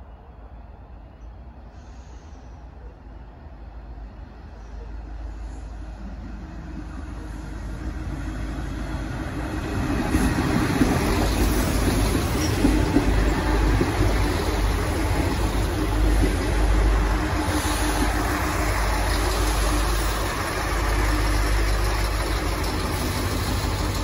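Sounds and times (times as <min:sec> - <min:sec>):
diesel train engines: 0:00.0 - 0:24.0
train wheels on rails: 0:01.6 - 0:24.0.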